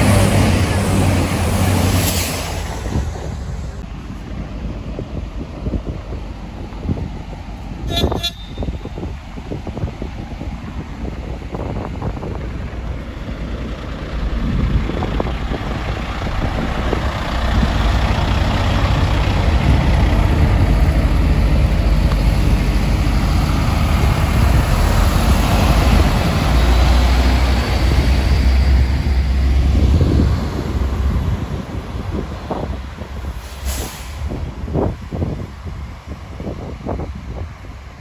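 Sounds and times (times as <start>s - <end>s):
diesel engine drone: 0.0s - 38.0s
train wheels on rails: 0.0s - 38.0s.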